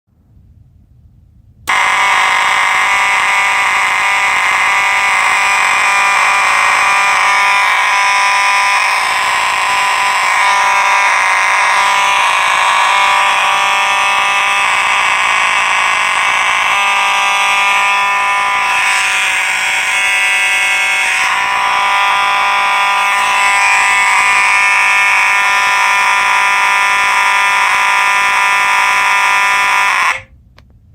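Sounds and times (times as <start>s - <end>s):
fire alarm horn buzzing: 1.7s - 30.4s.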